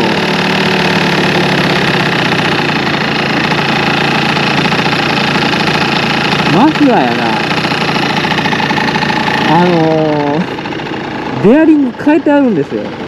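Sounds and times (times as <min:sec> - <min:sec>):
scooter engine idling: 0:00.0 - 0:13.0
steady muffler rattle: 0:00.0 - 0:13.0.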